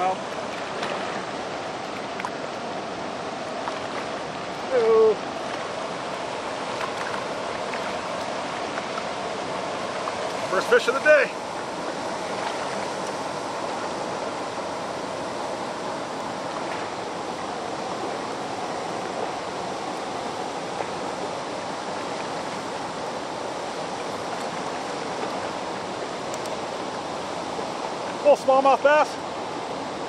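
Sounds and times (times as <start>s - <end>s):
river water rushing through dam: 0.0s - 30.0s.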